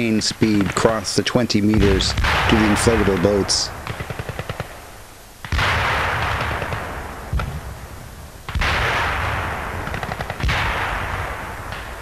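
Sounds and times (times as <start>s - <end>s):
machine-gun fire: 0.4s - 7.7s, 8.5s - 12.0s
heavy gunshots with echo: 0.4s - 7.8s, 8.5s - 12.0s.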